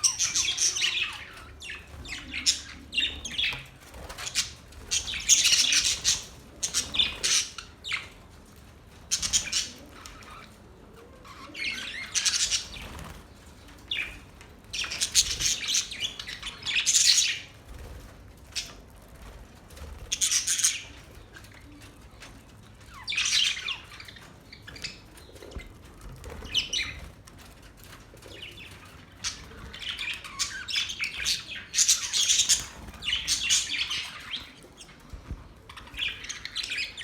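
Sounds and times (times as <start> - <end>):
budgerigars chattering and squawking: 0.0 - 8.2, 9.1 - 17.9, 20.1 - 21.9, 22.8 - 27.2, 28.3 - 37.0.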